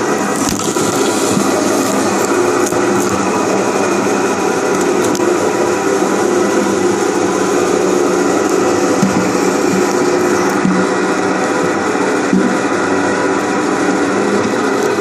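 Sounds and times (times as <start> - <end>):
log splitter motor hum and whine: 0.0 - 15.0.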